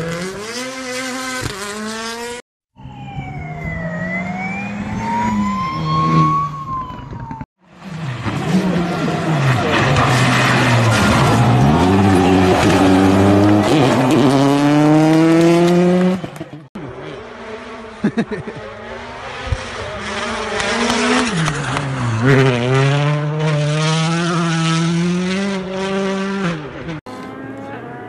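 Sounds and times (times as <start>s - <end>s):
rally car engine revving: 0.0s - 2.4s, 7.7s - 28.0s.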